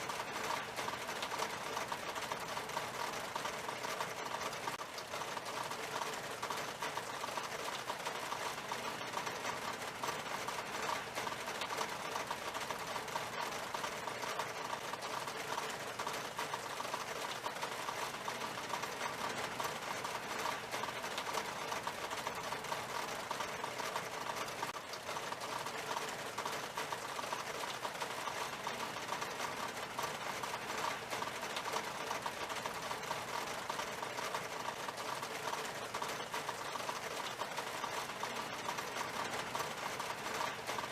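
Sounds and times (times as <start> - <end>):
rain on window glass: 0.0 - 40.9.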